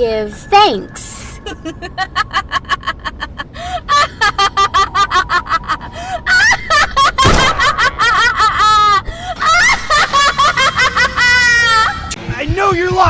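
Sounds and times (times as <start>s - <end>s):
person cackling with laughter: 1.4s - 12.2s.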